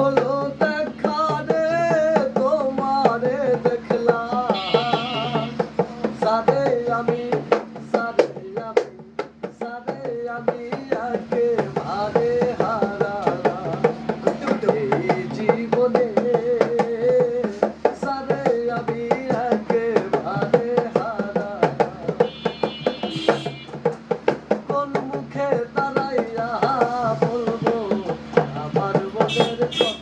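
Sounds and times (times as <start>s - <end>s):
hand drum strokes: 0.0s - 30.0s.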